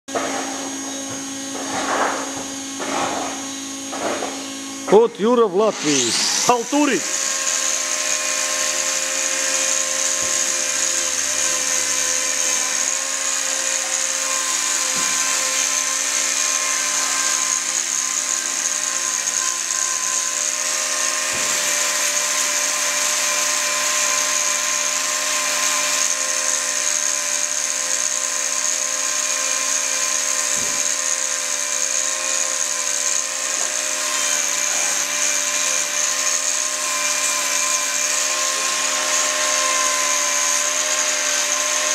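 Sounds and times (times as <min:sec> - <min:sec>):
angle grinder whining: 0:00.1 - 0:41.9.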